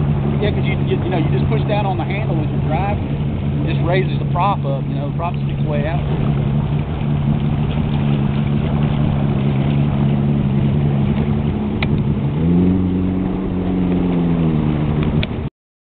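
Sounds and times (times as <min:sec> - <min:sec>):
outboard motor running: 0:00.0 - 0:15.5.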